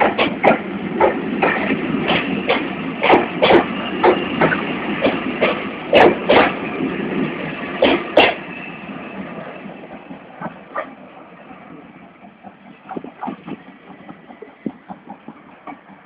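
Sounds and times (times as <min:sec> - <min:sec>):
steam locomotive exhaust chuffing: 0:00.0 - 0:16.0.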